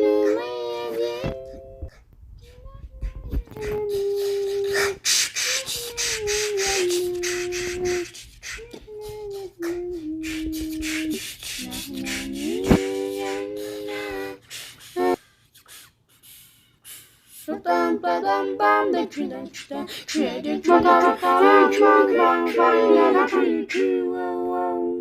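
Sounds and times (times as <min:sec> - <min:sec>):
voices singing a cappella: 0:00.0 - 0:01.9, 0:02.7 - 0:25.0.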